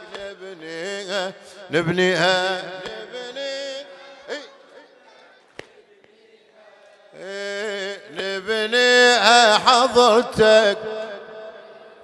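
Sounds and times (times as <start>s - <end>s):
man chanting: 0.0s - 5.4s, 6.7s - 12.0s.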